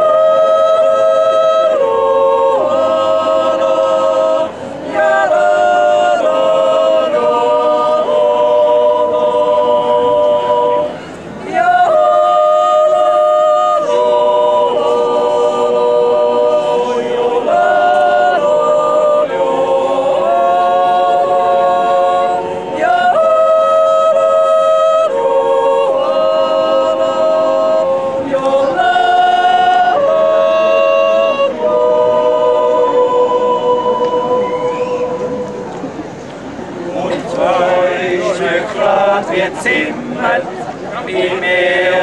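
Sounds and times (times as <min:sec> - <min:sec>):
choir singing a cappella: 0:00.0 - 0:42.0.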